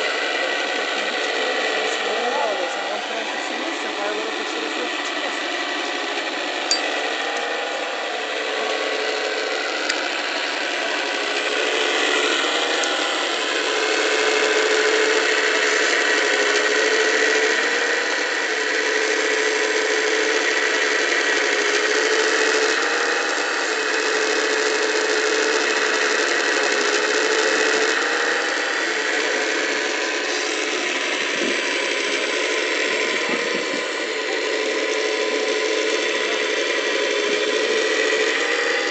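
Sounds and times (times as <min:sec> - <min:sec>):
hydraulic pump whine: 0:00.0 - 0:38.9.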